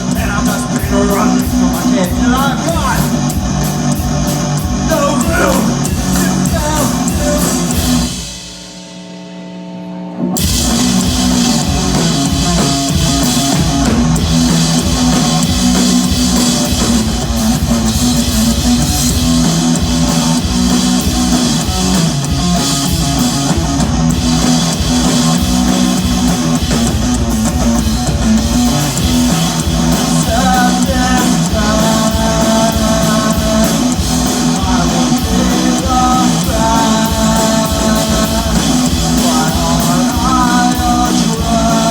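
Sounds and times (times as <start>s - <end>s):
live rock band playing: 0.0s - 9.4s, 10.2s - 41.9s.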